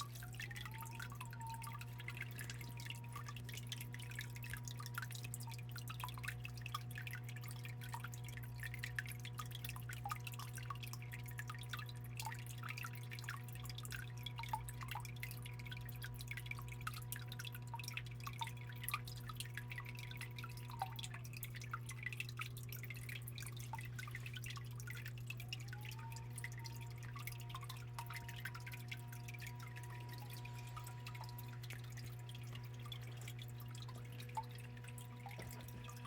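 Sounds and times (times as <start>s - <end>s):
steady low hum: 0.0s - 36.0s
water trickling and dripping: 0.0s - 36.0s.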